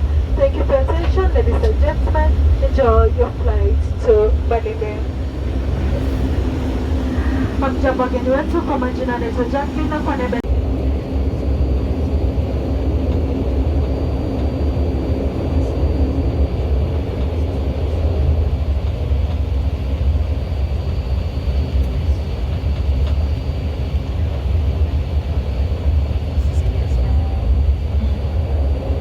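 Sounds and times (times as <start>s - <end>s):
airliner engine drone in cabin: 0.0s - 29.0s.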